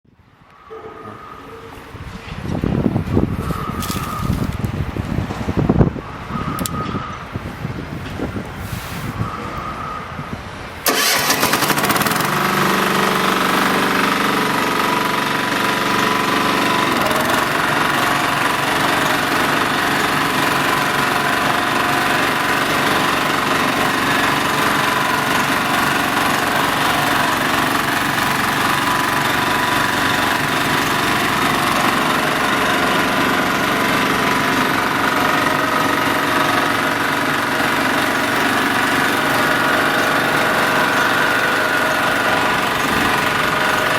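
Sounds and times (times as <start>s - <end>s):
road roller engine running: 0.1s - 43.9s.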